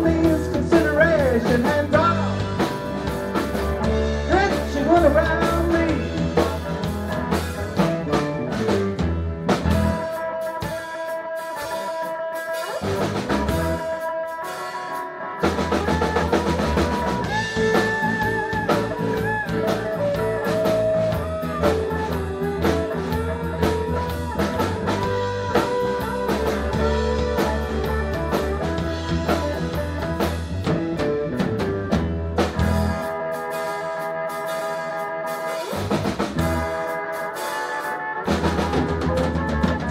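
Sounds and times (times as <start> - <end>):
blues band playing: 0.0 - 39.9
electric guitar: 0.0 - 39.9.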